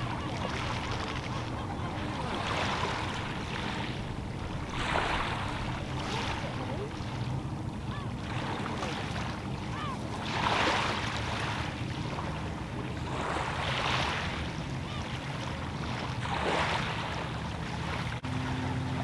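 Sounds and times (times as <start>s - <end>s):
waves washing onto shingle: 0.0s - 19.0s
wind rumble on microphone: 0.0s - 19.0s.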